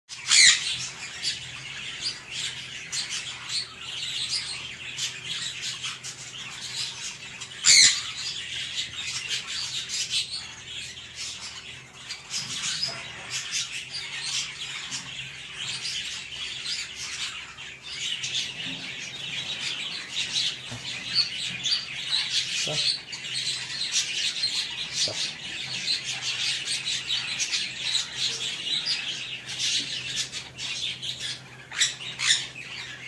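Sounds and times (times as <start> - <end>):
parrots chirping and whistling: 0.1 - 33.0.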